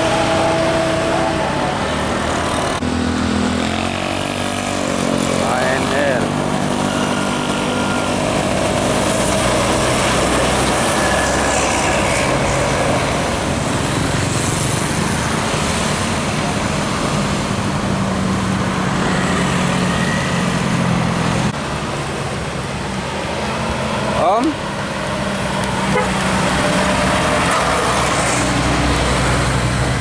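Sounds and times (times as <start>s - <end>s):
bus engine droning: 0.0s - 30.0s
road and traffic noise: 0.0s - 30.0s.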